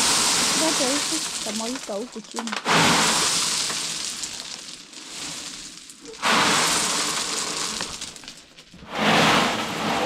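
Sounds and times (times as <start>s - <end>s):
gravel pouring onto ground: 0.0s - 10.0s.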